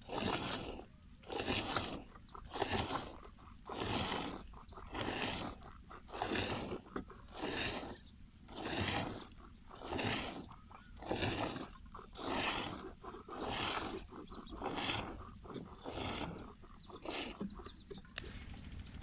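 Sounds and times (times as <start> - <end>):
milk squirting into bucket: 0.0 - 17.5.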